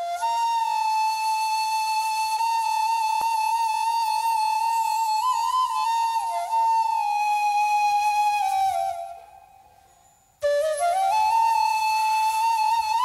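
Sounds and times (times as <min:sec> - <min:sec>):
bamboo flute solo: 0:00.0 - 0:13.0.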